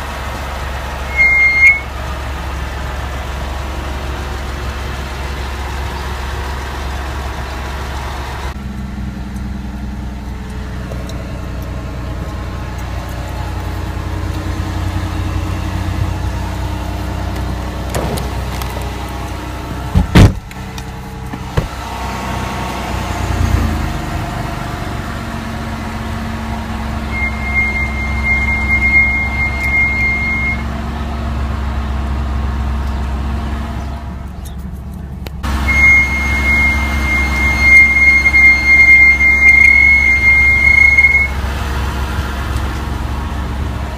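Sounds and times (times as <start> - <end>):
brakes squealing: 0.0 - 43.9
car engine and road rumble: 0.0 - 43.9.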